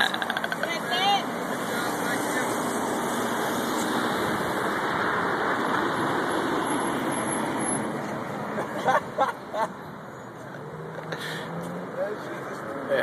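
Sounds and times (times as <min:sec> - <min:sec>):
car engine and tyres: 0:00.0 - 0:13.0
street traffic noise: 0:00.0 - 0:13.0.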